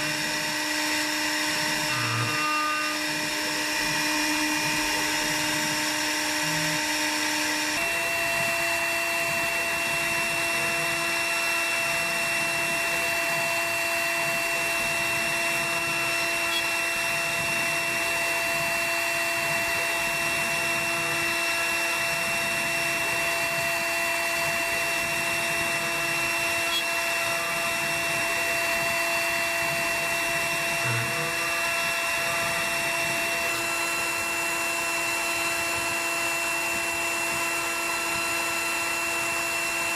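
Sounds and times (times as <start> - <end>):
hiss of wood cutting: 0.0 - 39.8
router spindle whine: 0.0 - 39.9.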